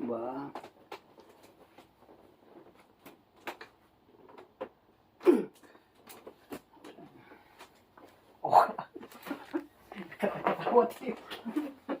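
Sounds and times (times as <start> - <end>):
massage handling sounds: 0.2 - 12.0.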